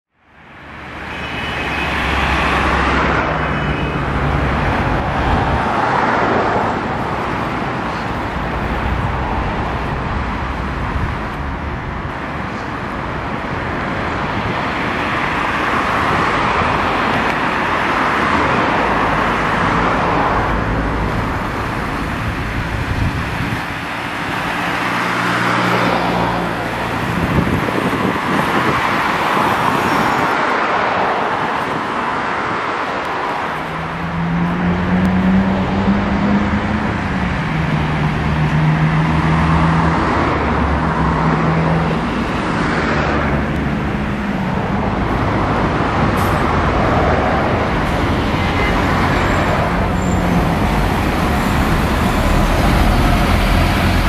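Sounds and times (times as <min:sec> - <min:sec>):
street traffic: 0:00.1 - 0:54.0
diesel bus engine: 0:02.1 - 0:54.0.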